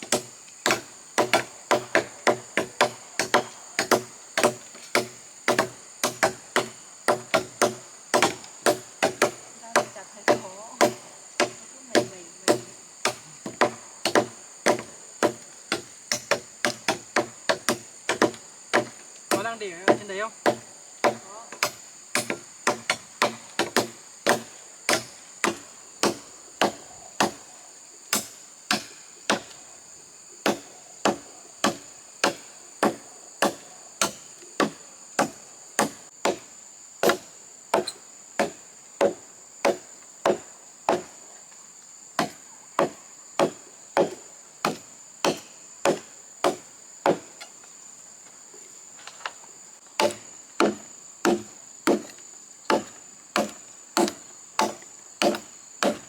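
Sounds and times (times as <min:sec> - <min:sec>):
blade chopping wood: 0:00.0 - 0:27.4, 0:28.1 - 0:29.6, 0:30.4 - 0:41.1, 0:42.2 - 0:47.3, 0:50.0 - 0:56.0
insect drone: 0:00.0 - 0:56.0.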